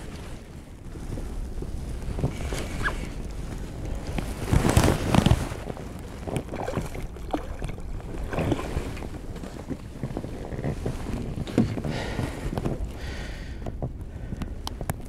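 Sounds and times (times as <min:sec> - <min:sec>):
water slapping boat hull: 0:00.0 - 0:14.9
wind buffeting microphone: 0:00.0 - 0:15.0.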